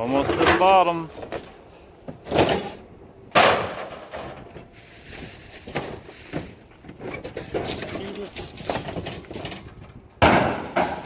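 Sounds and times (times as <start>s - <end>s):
scrap metal clanging onto pile: 0.0s - 2.8s, 3.4s - 6.6s, 7.2s - 11.0s.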